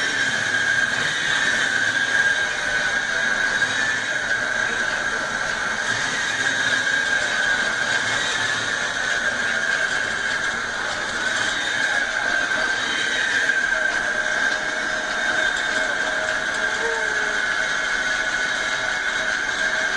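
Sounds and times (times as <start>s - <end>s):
high-pitched whine: 0.0s - 19.9s.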